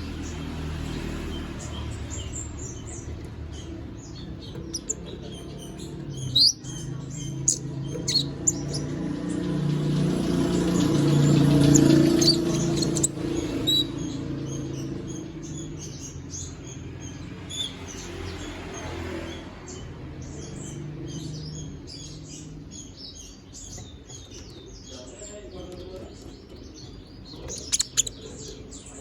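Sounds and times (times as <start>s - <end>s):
songbird chirping: 0.0s - 29.0s.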